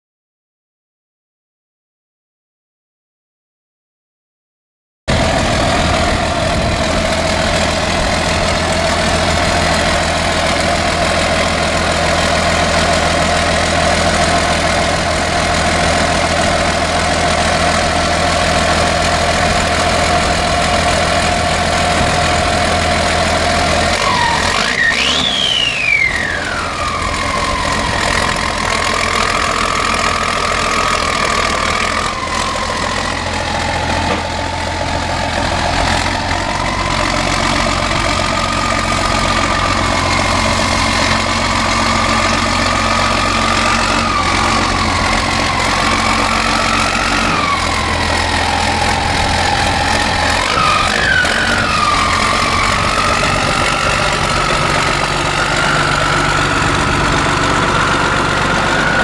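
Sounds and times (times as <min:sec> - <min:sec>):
high engine whine: 0:05.1 - 0:59.0
truck engine idling: 0:05.1 - 0:59.0.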